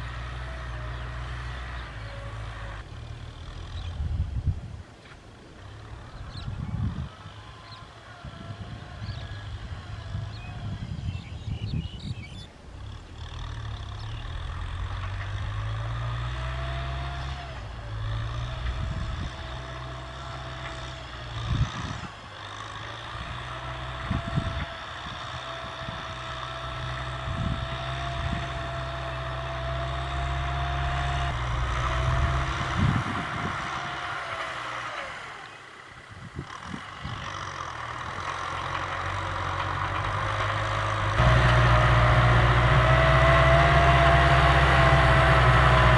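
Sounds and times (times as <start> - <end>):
diesel engine under load: 0.0 - 45.9.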